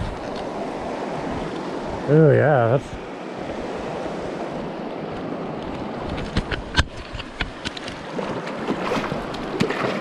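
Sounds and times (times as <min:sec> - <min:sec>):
rocky stream running: 0:00.0 - 0:10.0.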